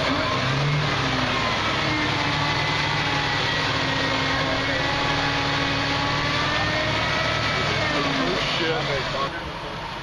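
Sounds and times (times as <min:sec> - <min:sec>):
off-road vehicle engines running: 0:00.0 - 0:10.0.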